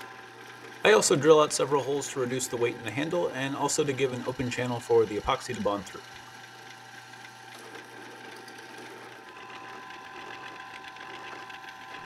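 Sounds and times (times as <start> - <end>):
drill press drilling steel: 0.0 - 12.0.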